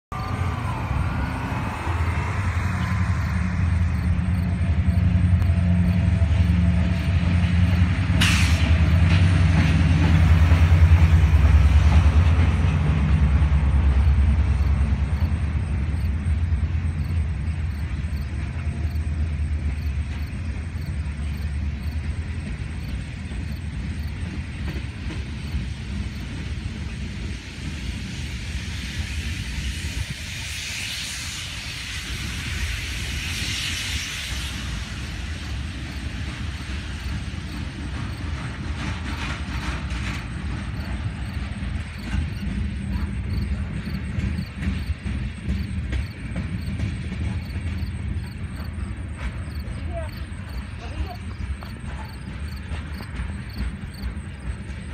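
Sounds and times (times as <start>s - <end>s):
diesel locomotive engine hum: 0.0s - 54.9s
train wheels rolling on rails: 0.1s - 54.9s.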